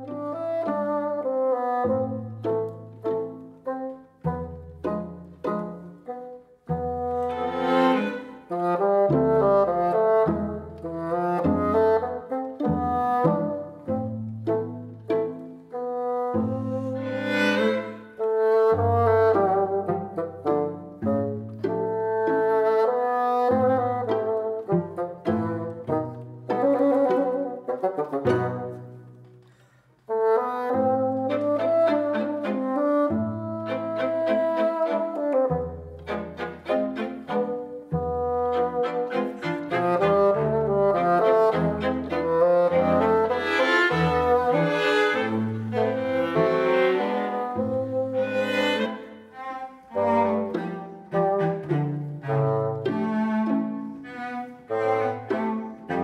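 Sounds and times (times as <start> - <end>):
instrumental background music: 0.0 - 56.0.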